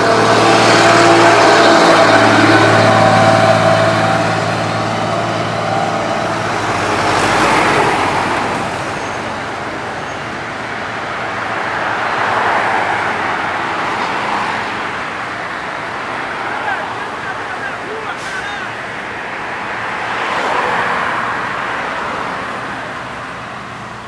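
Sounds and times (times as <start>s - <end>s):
truck diesel engine passing: 0.0s - 24.0s
tyres hissing on wet road: 0.0s - 24.0s
vehicles passing: 0.0s - 24.0s.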